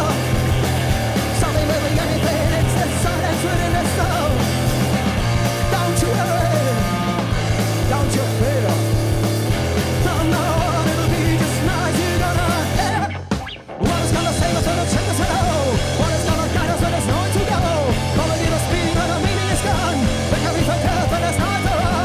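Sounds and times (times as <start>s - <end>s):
person singing: 0.0s - 0.5s, 1.2s - 4.5s, 5.6s - 7.2s, 7.8s - 8.9s, 9.9s - 22.0s
heavy bass line: 0.0s - 22.0s
rock band playing: 0.0s - 22.0s.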